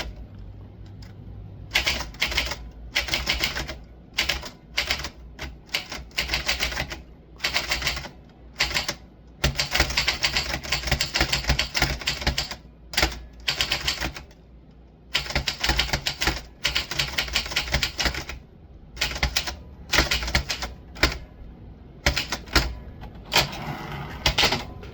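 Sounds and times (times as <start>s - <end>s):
typewriter keystrikes: 1.7s - 14.4s, 15.1s - 18.4s, 19.0s - 21.2s, 22.0s - 23.6s, 24.2s - 24.9s.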